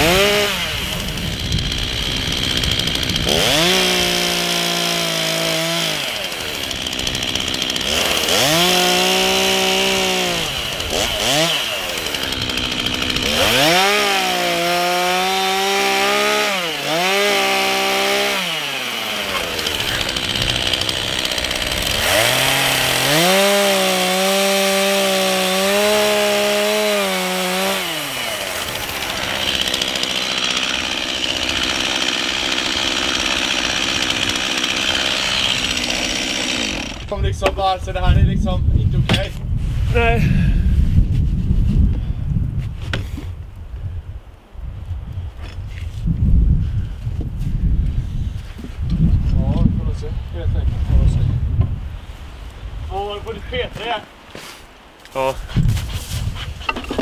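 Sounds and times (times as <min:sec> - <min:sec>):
chainsaw cutting log: 0:00.0 - 0:42.1, 0:42.8 - 0:43.4, 0:52.9 - 0:57.0.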